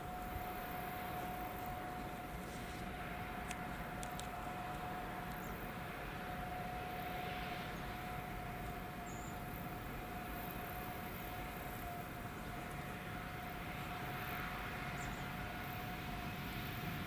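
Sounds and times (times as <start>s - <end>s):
train rumble: 0.0s - 17.0s
train whine: 0.0s - 17.0s.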